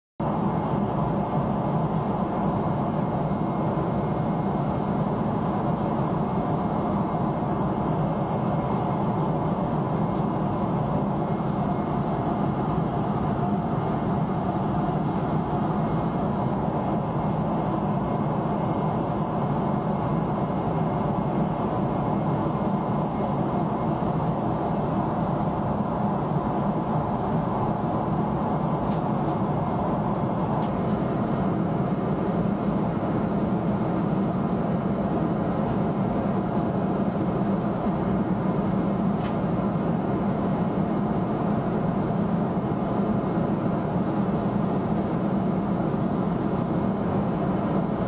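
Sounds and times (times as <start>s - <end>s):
faint steady whine: 0.2s - 48.0s
jet cabin engine roar: 0.2s - 48.0s.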